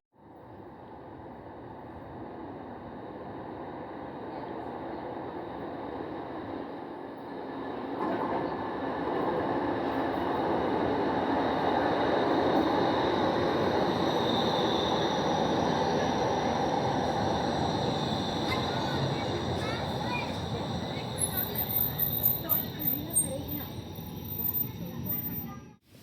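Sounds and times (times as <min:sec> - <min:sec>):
train rushing noise: 0:00.7 - 0:26.0.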